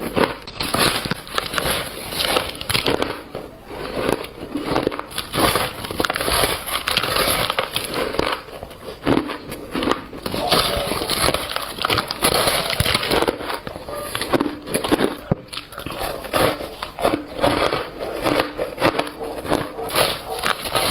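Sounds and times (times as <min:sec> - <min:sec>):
crunchy chewing of ice: 0:00.0 - 0:20.9.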